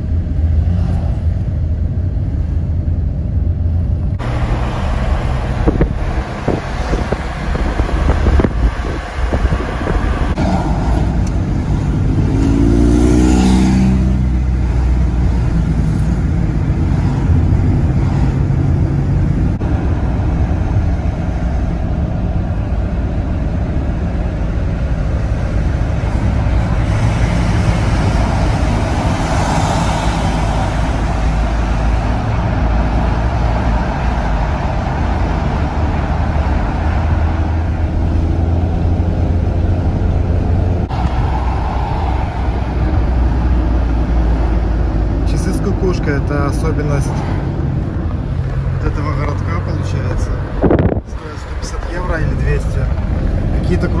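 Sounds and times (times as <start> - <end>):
car engine and tyre rumble: 0.0 - 54.0
road noise hiss: 0.0 - 54.0.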